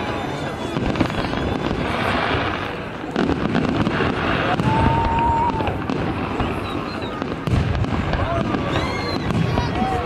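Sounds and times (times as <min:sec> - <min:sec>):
firework whistle: 0:00.0 - 0:10.0
fireworks bursting and crackling: 0:00.0 - 0:10.0.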